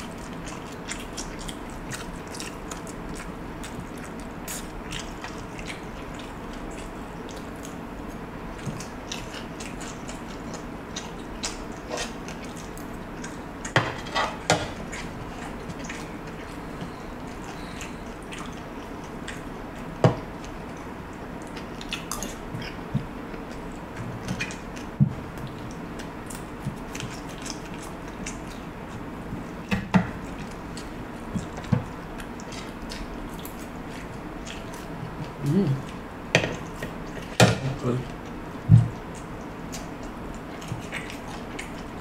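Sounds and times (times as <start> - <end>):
person chewing: 0.0 - 37.4, 38.1 - 42.0.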